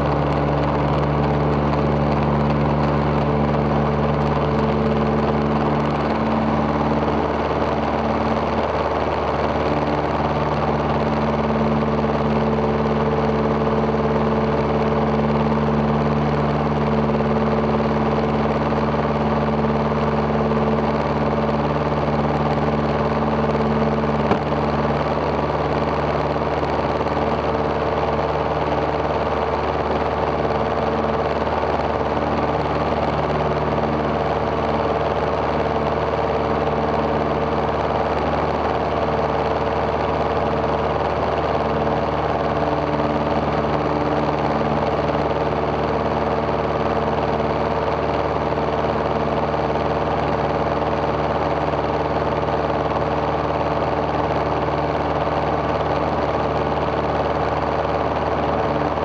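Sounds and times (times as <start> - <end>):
propeller airplane engine running: 0.0 - 59.0.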